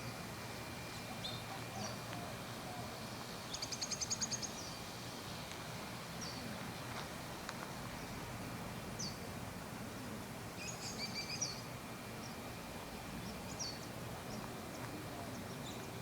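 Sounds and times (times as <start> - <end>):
low background hiss: 0.0 - 16.0.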